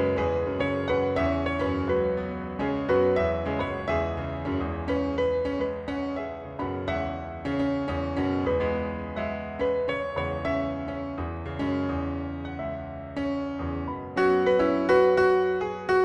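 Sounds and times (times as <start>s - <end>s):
computer-generated piano notes: 0.0s - 16.0s.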